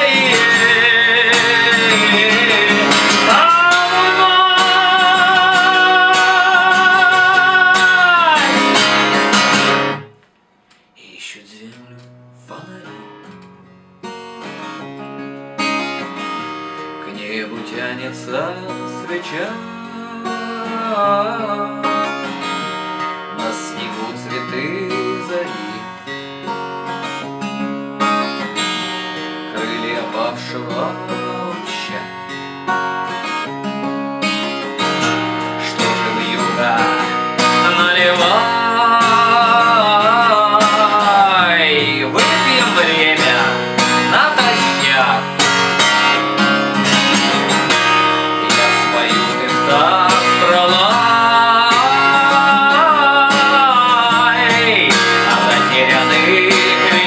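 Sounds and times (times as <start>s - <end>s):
man singing: 0.0s - 9.6s, 11.0s - 13.3s, 17.0s - 26.0s, 29.5s - 32.3s, 34.8s - 57.0s
acoustic guitar picking and strumming: 0.0s - 57.0s.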